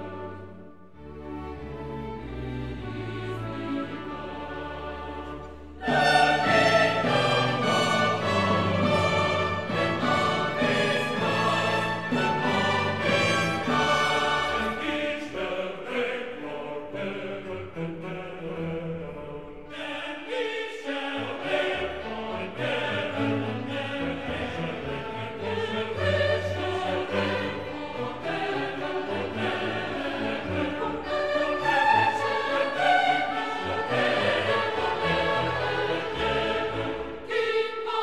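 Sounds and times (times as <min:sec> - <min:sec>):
orchestral accompaniment: 0:00.0 - 0:20.1, 0:20.9 - 0:38.0
choir singing held notes: 0:01.9 - 0:38.0.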